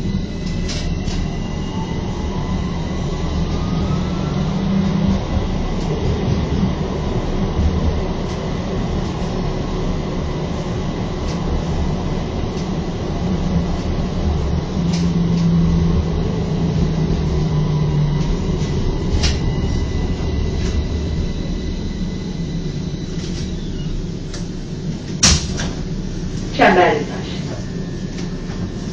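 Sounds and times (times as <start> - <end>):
low hum: 0.0 - 28.9
tram wheels rumbling on rails: 0.0 - 28.9.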